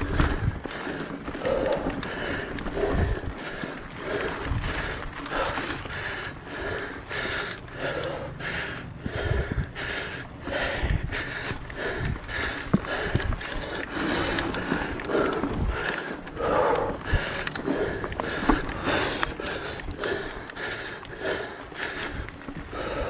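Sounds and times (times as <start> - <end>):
bike tyres rolling on dirt: 0.0 - 23.0
person breathing hard: 0.0 - 23.0.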